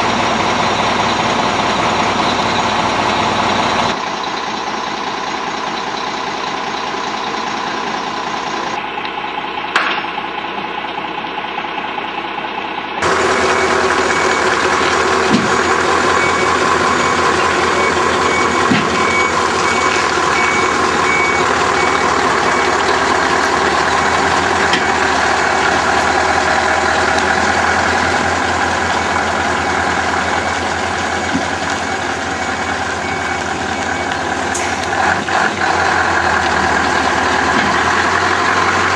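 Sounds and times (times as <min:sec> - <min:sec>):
lorry diesel engines running: 0:00.0 - 0:38.9
reversing alarm beeping: 0:00.0 - 0:38.9.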